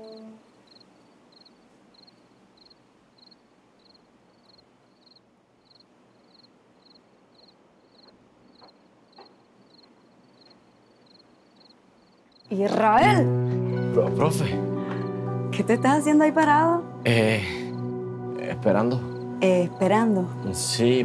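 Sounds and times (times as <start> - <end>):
cricket chirping: 0.0 - 13.7, 16.8 - 21.0
low hiss: 0.0 - 21.0.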